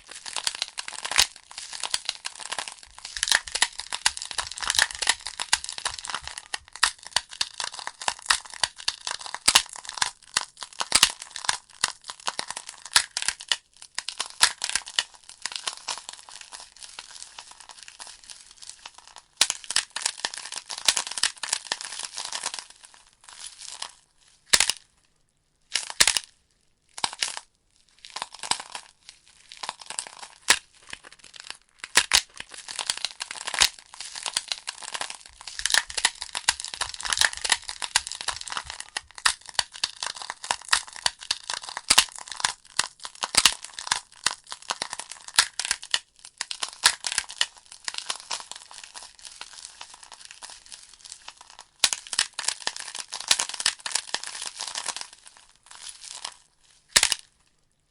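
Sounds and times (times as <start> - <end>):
burning logs crackling and popping: 0.0 - 23.0, 29.6 - 57.2.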